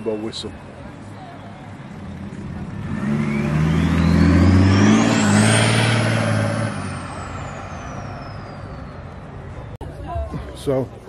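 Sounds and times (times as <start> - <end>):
diesel car driving away: 0.0 - 9.8.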